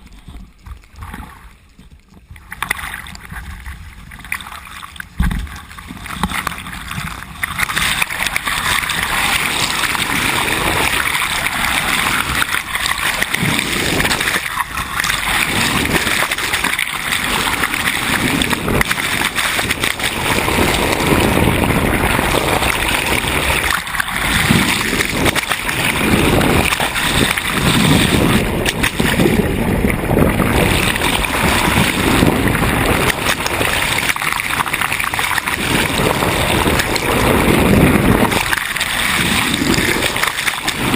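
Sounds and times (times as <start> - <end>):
water splashing along hull: 0.0 - 40.9.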